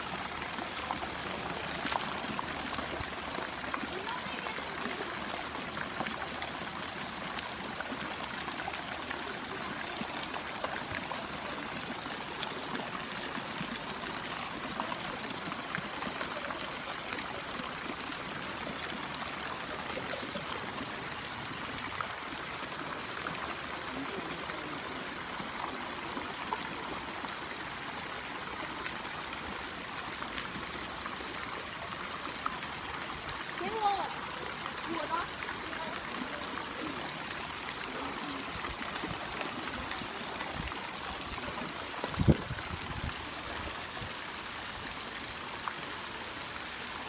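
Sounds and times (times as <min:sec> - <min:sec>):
water trickling into pool: 0:00.0 - 0:47.0.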